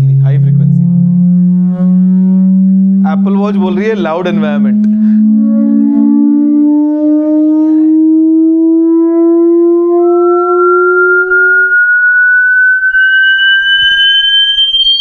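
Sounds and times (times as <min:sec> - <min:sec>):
rising frequency sweep test tone: 0:00.0 - 0:15.0.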